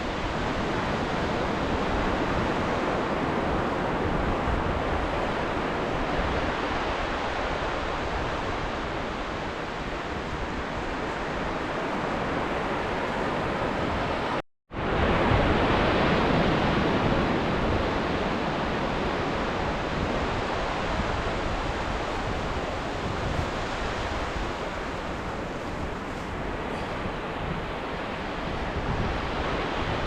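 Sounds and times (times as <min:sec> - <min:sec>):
waves washing on shore: 0:00.0 - 0:30.0.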